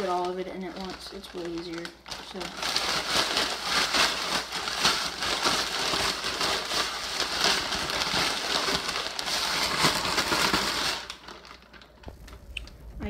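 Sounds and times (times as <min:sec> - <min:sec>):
crumbs crackling in bag: 0:00.0 - 0:12.5
plastic bag crinkling: 0:00.0 - 0:13.0.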